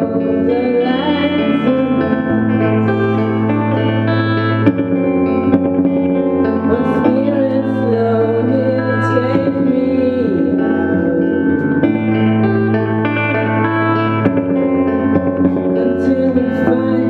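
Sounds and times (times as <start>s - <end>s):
person singing: 0.0s - 4.8s, 6.2s - 14.3s, 15.0s - 17.0s
electric guitar chords: 0.0s - 17.0s.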